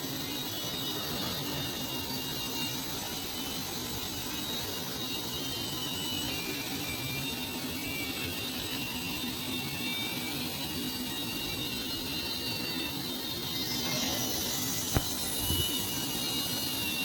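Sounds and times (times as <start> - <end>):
faint high-pitched whines: 0.0 - 17.0
textile machine whirring: 0.1 - 17.0.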